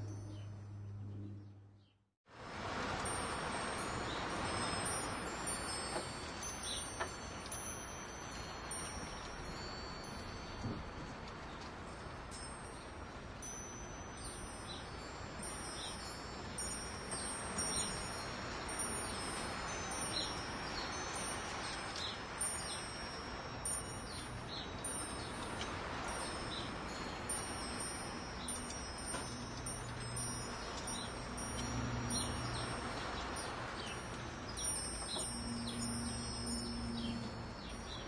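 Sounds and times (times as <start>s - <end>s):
wind chimes ringing: 0.0s - 0.9s, 2.6s - 38.0s.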